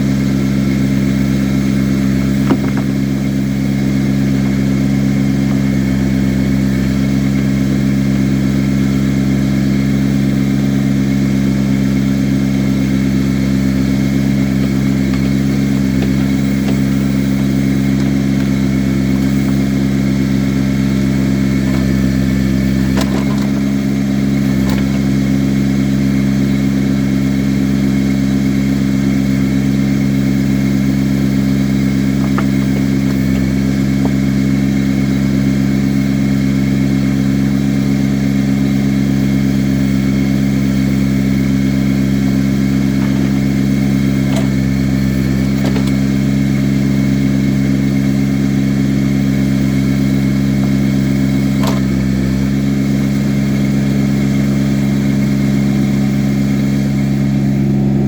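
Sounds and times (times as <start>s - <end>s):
earth-moving machine engine running: 0.0s - 58.0s.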